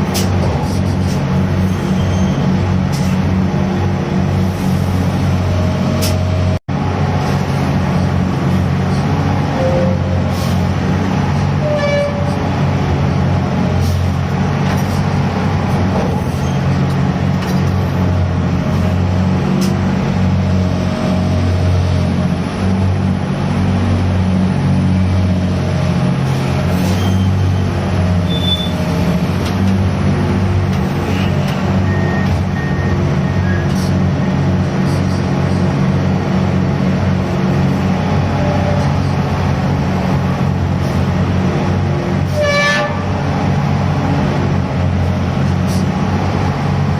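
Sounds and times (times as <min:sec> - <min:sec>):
diesel crane running under load: 0:00.0 - 0:46.9.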